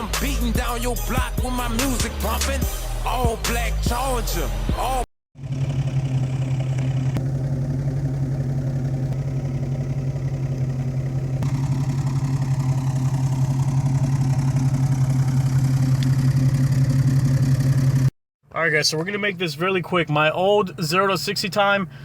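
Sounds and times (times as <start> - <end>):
car engine idling: 4.0 - 22.0.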